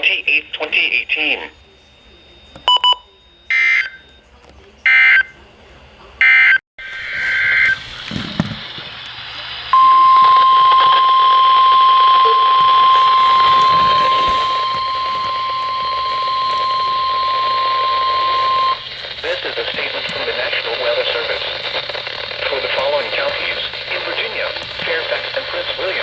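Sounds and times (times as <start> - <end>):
radio hiss: 0.0 - 2.5, 6.8 - 26.0.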